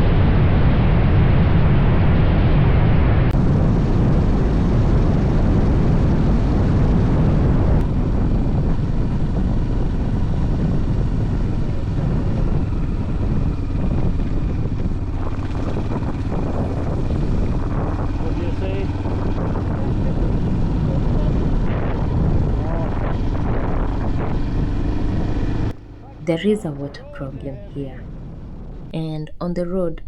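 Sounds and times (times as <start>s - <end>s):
rushing noise: 0.0s - 28.9s
motorcycle engine drone: 0.0s - 29.0s.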